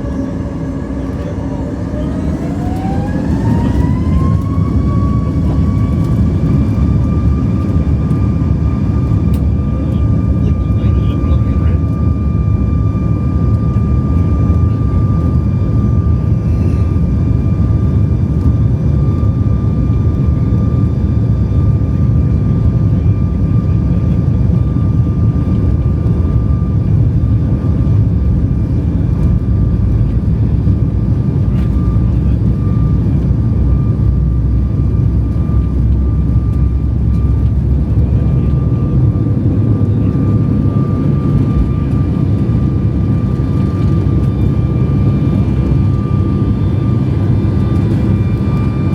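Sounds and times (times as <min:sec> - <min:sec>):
aircraft cabin rumble: 0:00.0 - 0:48.9
thin steady engine whine: 0:00.0 - 0:48.9.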